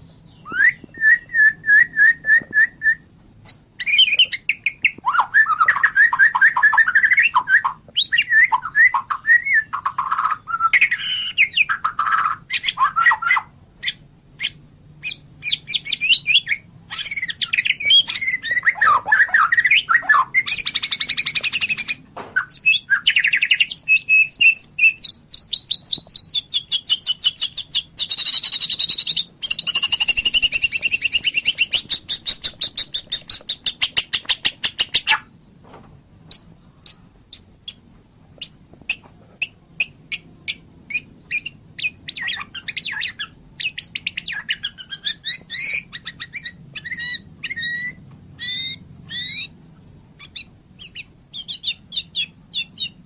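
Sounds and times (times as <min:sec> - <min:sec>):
bird singing whistled phrases: 0:00.0 - 0:35.4, 0:40.1 - 0:49.6, 0:50.2 - 0:53.0.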